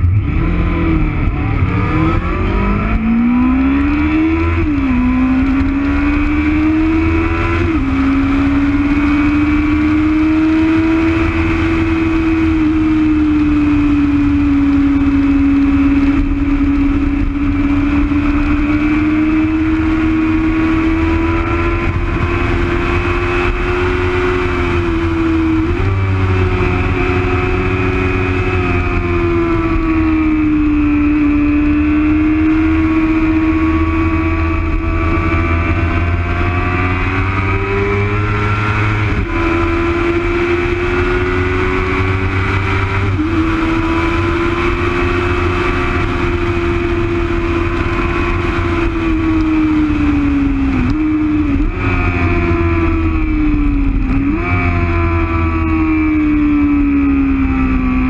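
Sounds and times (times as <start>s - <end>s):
low rush of wind: 0.0s - 58.0s
racing motorcycle engine: 0.0s - 58.0s.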